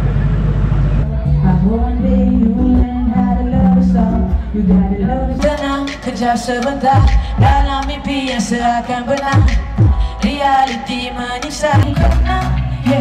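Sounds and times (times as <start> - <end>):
music with singing voice: 1.0 - 13.0.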